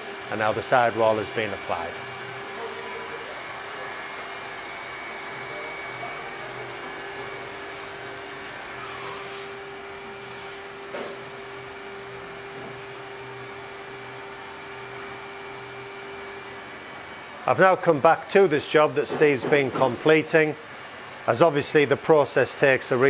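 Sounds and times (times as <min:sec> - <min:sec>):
sealing machine hum: 0:00.0 - 0:22.2
hot-air welder blowing: 0:00.0 - 0:23.0.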